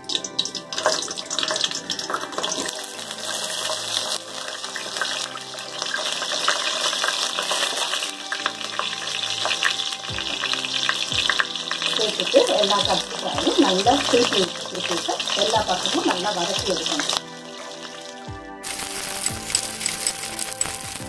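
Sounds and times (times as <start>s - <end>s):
eggplants sizzling in hot oil: 0.0s - 21.0s.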